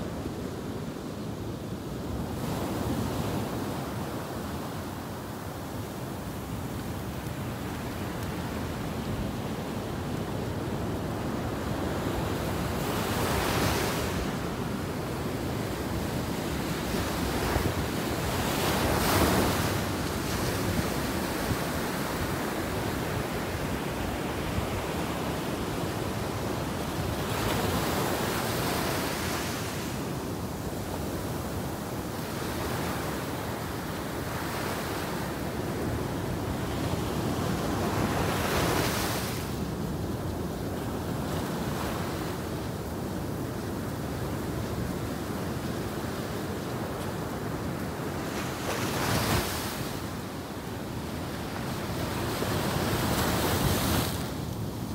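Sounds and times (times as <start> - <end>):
ocean surf breaking on beach: 0.1 - 54.9.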